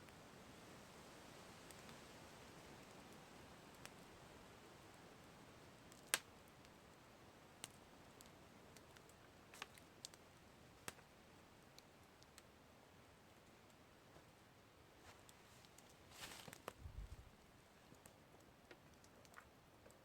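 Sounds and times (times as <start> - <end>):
faint steady hiss: 0.0 - 20.0
campfire crackling pops: 0.5 - 12.5, 15.2 - 19.5.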